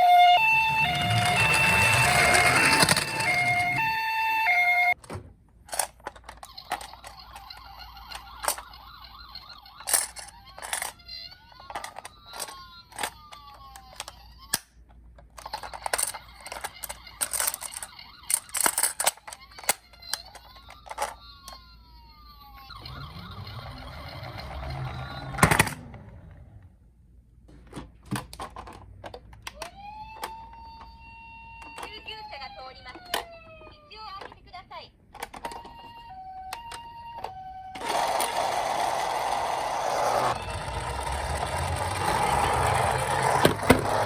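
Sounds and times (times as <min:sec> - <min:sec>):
toy electronic sirens wailing: 0:00.0 - 0:05.0, 0:06.4 - 0:14.5, 0:15.4 - 0:25.9, 0:29.5 - 0:34.3, 0:35.4 - 0:44.0.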